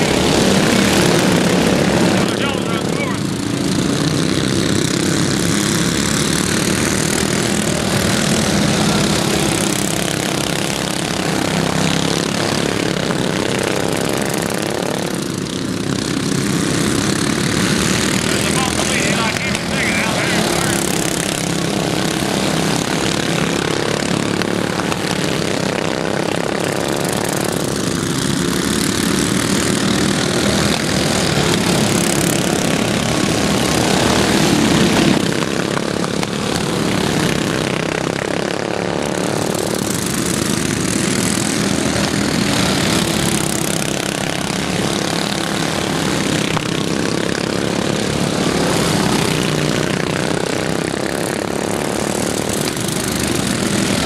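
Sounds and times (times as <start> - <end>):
racing lawn mower engines droning: 0.0 - 54.0.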